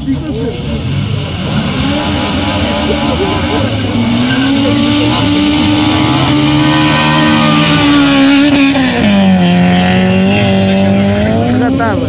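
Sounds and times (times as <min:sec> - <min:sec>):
car engine revving hard: 0:00.2 - 0:12.0.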